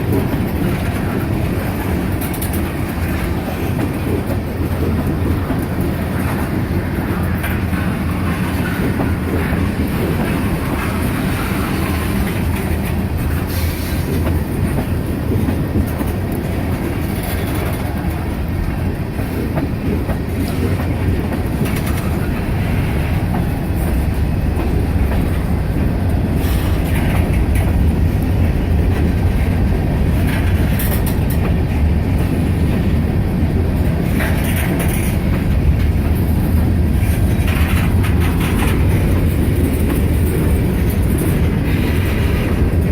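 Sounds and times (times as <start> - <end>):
freight train rumbling past: 0.0 - 42.9
wheels clicking over rail joints: 0.0 - 42.9.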